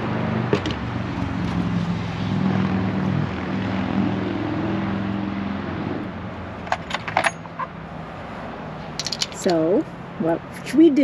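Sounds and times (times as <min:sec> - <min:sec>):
engine droning: 0:00.0 - 0:10.5.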